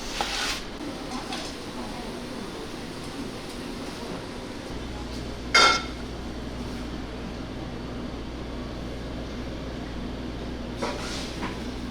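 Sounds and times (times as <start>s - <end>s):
low kitchen hum: 0.0s - 11.9s.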